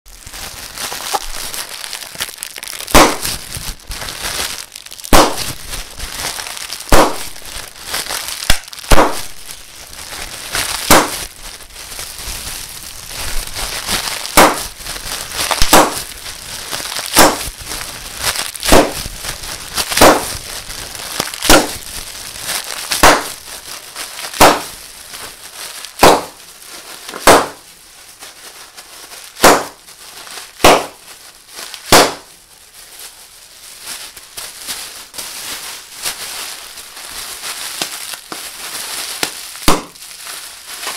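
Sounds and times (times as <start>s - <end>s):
bubble wrap bubbles popping: 0.1s - 40.9s
bubble wrap crinkling: 0.1s - 40.9s.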